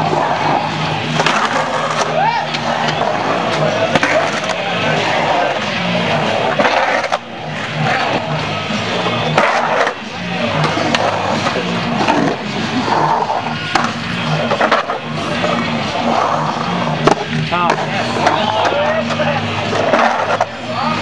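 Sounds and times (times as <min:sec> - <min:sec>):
skateboard clacks: 0:00.0 - 0:21.0
skateboard wheels rolling on concrete: 0:00.0 - 0:21.0.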